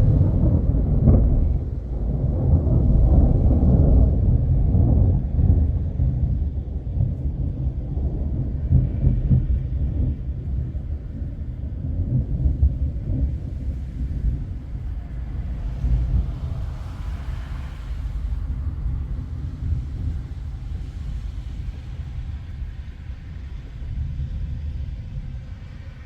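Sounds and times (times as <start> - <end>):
thunder rumbling: 0.0 - 26.0.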